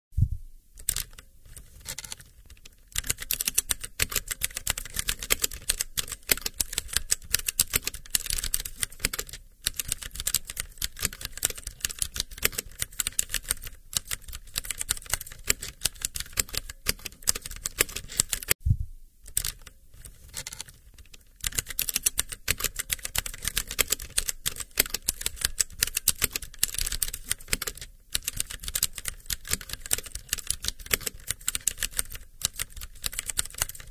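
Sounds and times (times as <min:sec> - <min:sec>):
fast keyboard typing: 0:00.8 - 0:18.6, 0:19.3 - 0:33.9.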